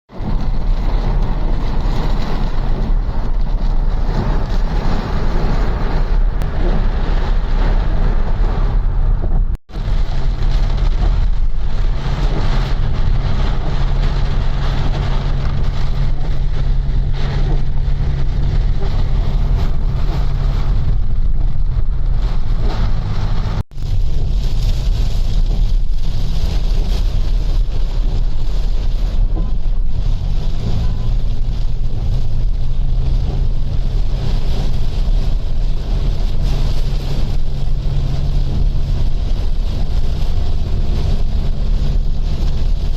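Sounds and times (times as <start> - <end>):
heavy rain falling: 0.1 - 42.9
wind rumbling on microphone: 0.1 - 42.9.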